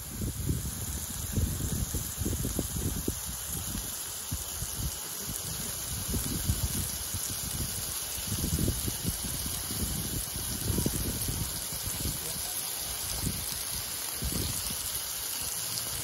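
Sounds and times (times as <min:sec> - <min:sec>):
patties sizzling on hot plate: 0:00.0 - 0:16.0.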